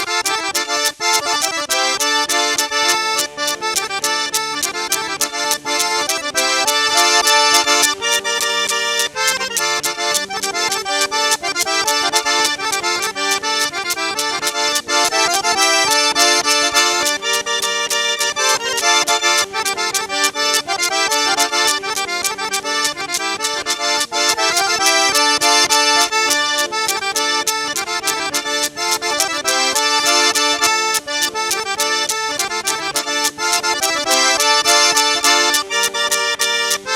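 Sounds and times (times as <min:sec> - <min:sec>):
accordion dance music: 0:00.0 - 0:36.9.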